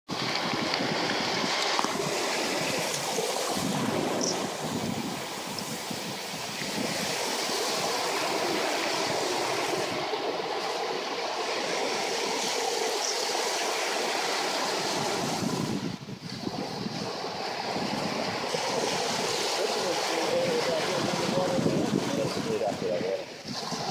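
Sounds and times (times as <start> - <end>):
ocean surf breaking: 0.1 - 23.9.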